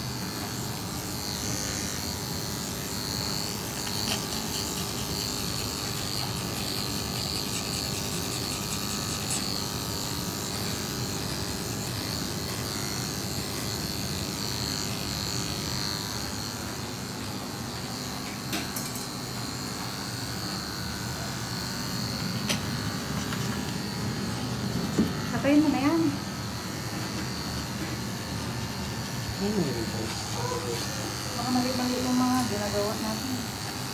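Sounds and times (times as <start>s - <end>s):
electric clippers humming: 0.0s - 33.9s.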